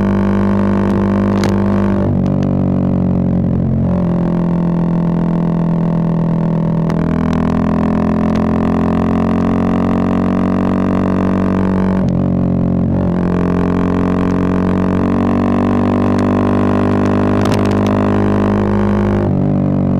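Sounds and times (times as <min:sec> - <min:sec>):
motorcycle engine drone: 0:00.0 - 0:19.9.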